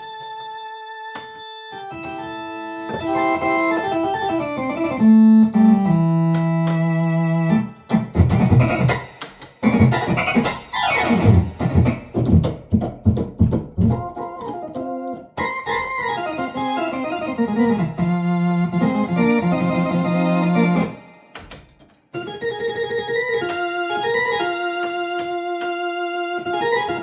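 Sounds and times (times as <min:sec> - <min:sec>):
electric organ playing: 0:00.0 - 0:12.3, 0:13.8 - 0:27.0.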